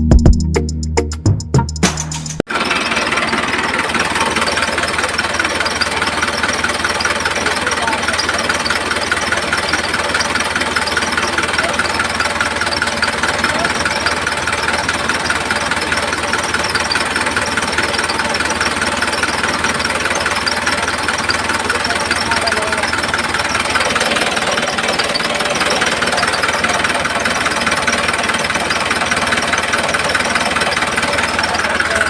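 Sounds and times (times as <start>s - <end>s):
machine rattling steadily: 2.5s - 32.0s.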